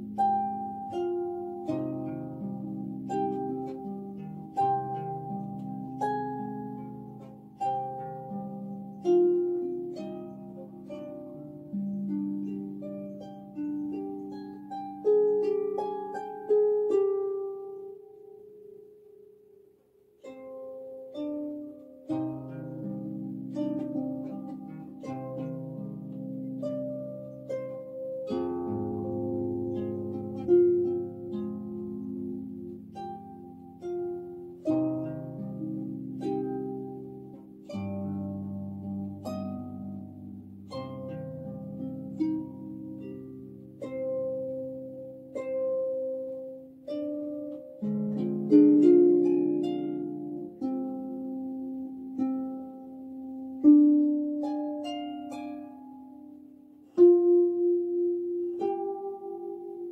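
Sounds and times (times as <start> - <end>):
harp plucked: 0.0 - 59.9.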